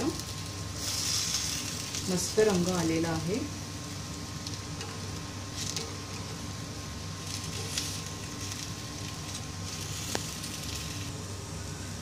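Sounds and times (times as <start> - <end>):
food sizzling in oil: 0.0 - 11.7.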